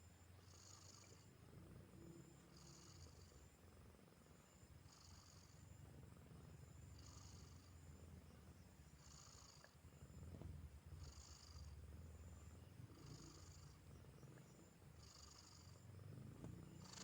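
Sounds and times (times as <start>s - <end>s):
cat purring: 0.4s - 17.0s.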